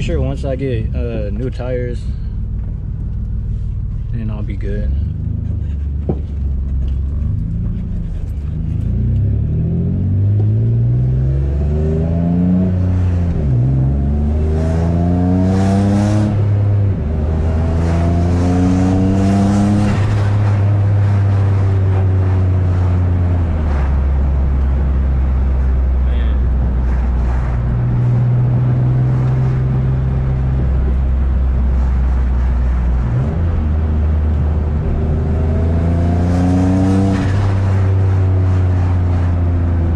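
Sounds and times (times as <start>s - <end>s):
car engine accelerating hard: 4.2s - 39.9s.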